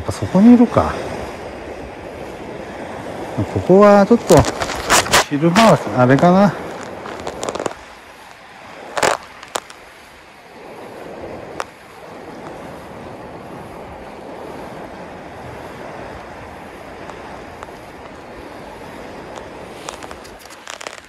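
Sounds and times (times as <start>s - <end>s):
sea waves: 0.0s - 21.0s
wind: 0.0s - 21.0s.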